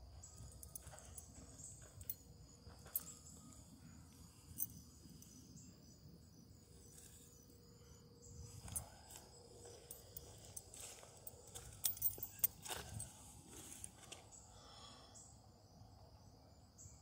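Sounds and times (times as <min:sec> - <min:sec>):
insect chirps: 0:00.0 - 0:17.0
insects trilling: 0:00.0 - 0:17.0.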